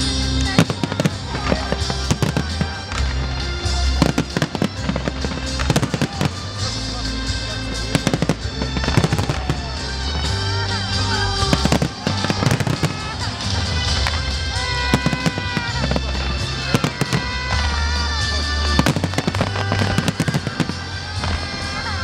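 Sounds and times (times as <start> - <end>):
fireworks bursting and crackling: 0.0 - 22.0
loud music with bass: 0.0 - 22.0.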